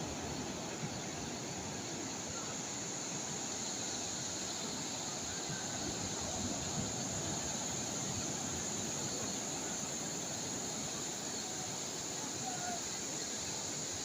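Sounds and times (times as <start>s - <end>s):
high-pitched insect drone: 0.1s - 14.0s.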